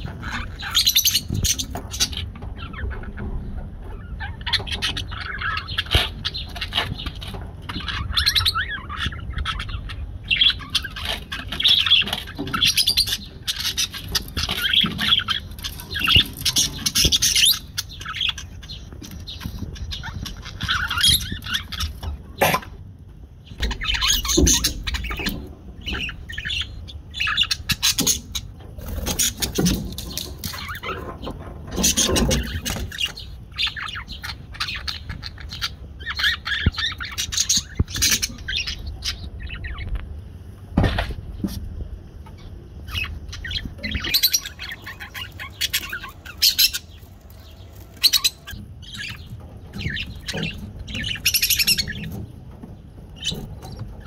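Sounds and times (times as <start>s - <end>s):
budgerigars chattering and chirping: 0.0s - 40.0s, 40.8s - 54.0s.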